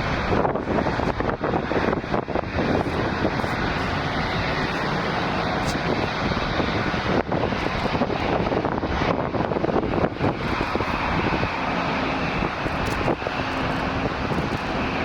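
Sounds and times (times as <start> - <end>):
jet engines running: 0.0 - 15.0
wind buffeting microphone: 0.0 - 15.0.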